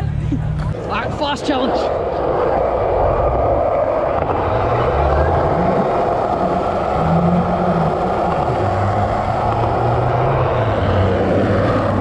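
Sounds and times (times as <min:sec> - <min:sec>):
car engines idling: 0:00.0 - 0:12.0
steady rushing noise: 0:00.7 - 0:12.0.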